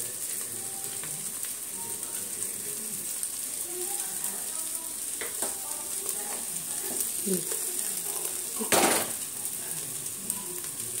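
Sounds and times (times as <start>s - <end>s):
faint sizzling in pressure cooker: 0.0s - 11.0s.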